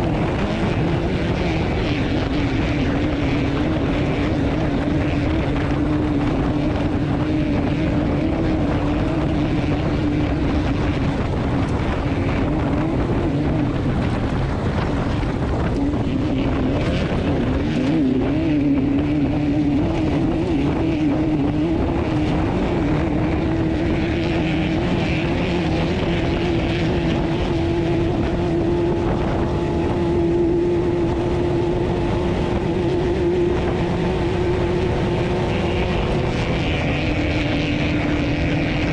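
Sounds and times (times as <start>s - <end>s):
race car engine running: 0.0s - 38.9s.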